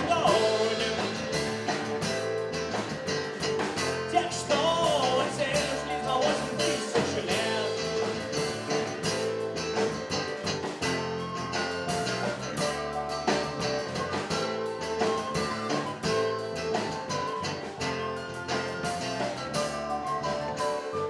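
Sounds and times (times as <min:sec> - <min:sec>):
rock band playing instrumental: 0:00.0 - 0:21.0.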